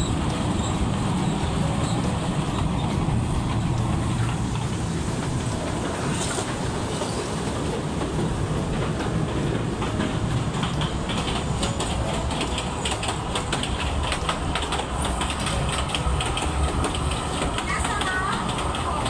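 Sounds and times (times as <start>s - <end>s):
train low rumble: 0.0s - 19.0s
wheels clicking and rattling: 0.0s - 19.0s.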